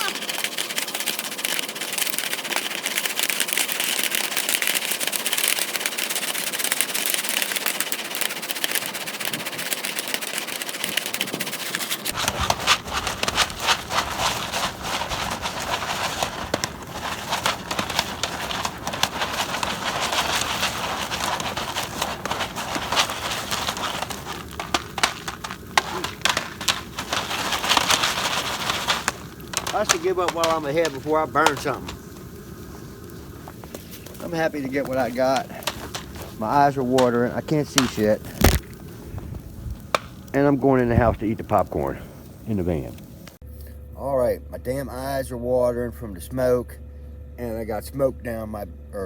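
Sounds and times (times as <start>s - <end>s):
popcorn popping: 0.0s - 43.0s
crackling campfire: 0.0s - 43.4s.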